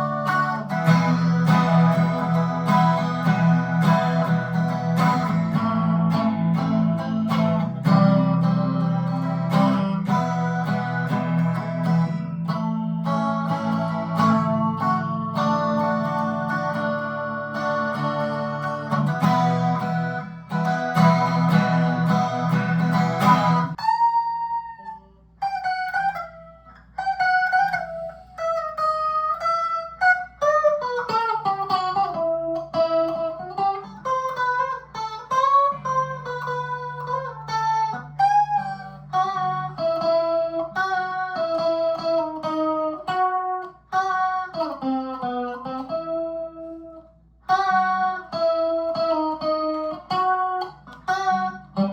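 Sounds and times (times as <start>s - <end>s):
electric guitar playing: 0.0s - 51.9s.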